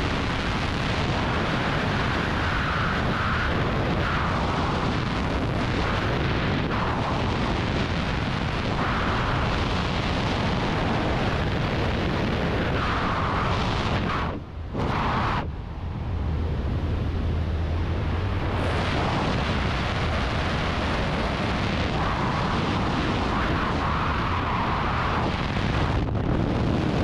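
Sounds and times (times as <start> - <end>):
wind roaring over microphone: 0.0 - 27.0.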